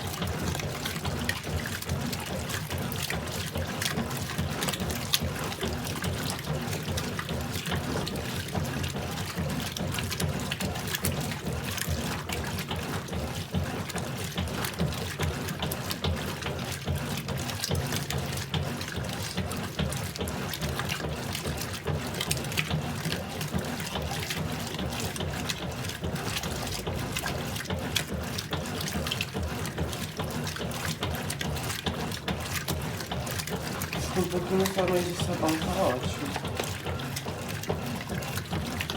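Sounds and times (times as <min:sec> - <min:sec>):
water splashing in washing machine: 0:00.0 - 0:38.9.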